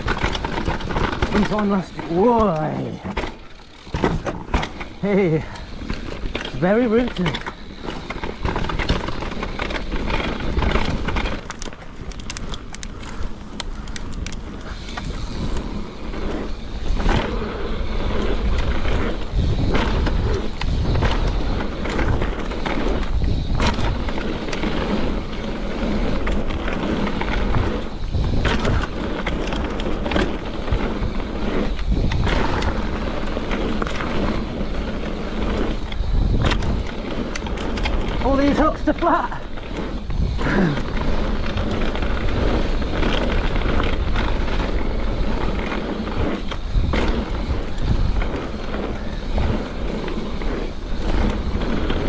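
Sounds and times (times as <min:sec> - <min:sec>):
bike rattling: 0:00.0 - 0:52.0
tyre and wind noise: 0:00.0 - 0:52.0
wheels knocking on roots: 0:00.0 - 0:52.0.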